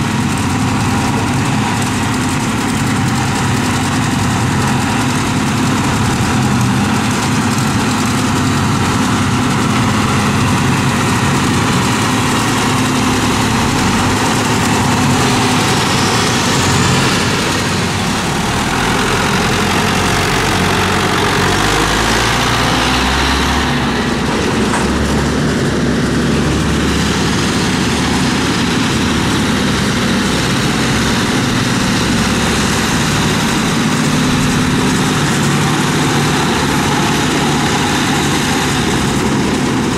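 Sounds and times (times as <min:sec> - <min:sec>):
forage harvester chopping grass: 0:00.0 - 0:39.9
tractor engines running: 0:00.0 - 0:39.9.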